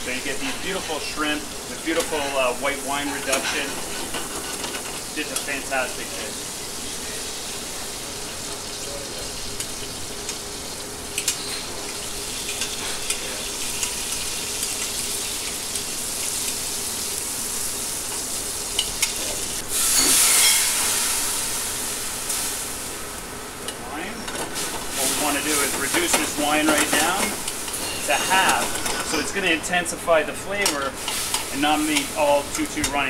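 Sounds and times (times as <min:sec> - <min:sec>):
shrimp sizzling in a pan: 0:00.0 - 0:29.5, 0:30.9 - 0:33.0.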